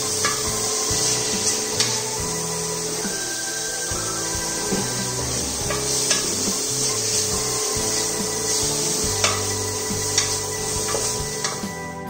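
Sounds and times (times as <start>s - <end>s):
onions sizzling in oil: 0.0s - 11.8s
wooden spatula stirring and scraping: 0.0s - 11.8s.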